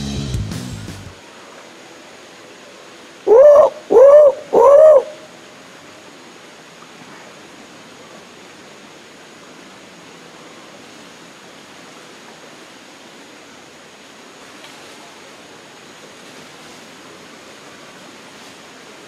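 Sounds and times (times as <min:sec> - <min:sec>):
steady hiss: 0:00.9 - 0:19.0.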